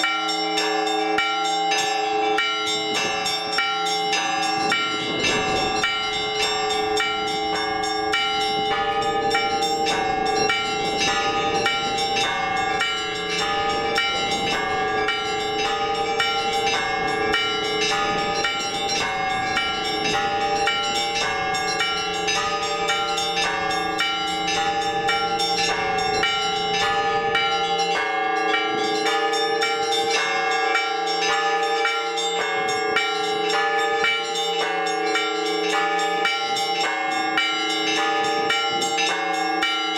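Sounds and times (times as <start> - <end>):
large church bells ringing: 0.0 - 39.9
small church bells struck rapidly: 0.0 - 39.9.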